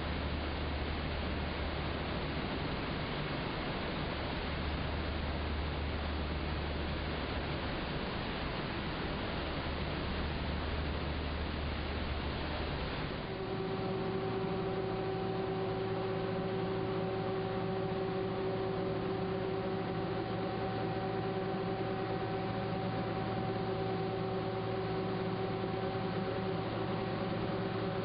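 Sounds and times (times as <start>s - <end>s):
constant hum: 0.0s - 28.0s.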